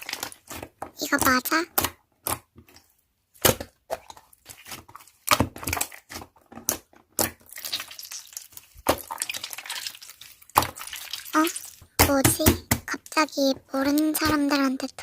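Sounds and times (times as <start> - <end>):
slime crackling and squishing: 0.0 - 15.0.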